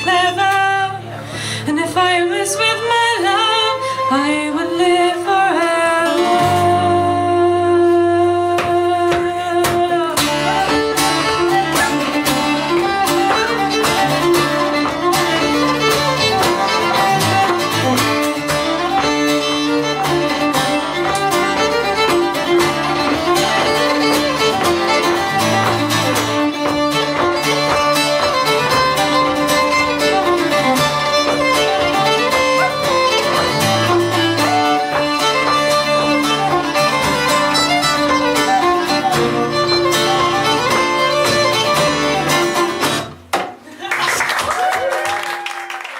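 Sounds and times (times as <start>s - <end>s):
fiddle playing a tune: 0.0s - 43.2s
acoustic guitar strumming: 0.0s - 43.3s.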